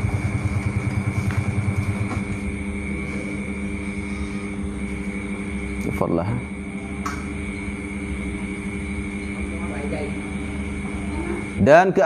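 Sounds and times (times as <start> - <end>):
engine running with low throb: 0.0 - 11.6.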